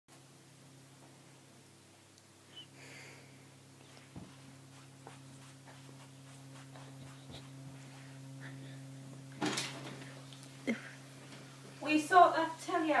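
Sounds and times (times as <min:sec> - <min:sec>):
faint low electrical hum: 0:00.1 - 0:13.0.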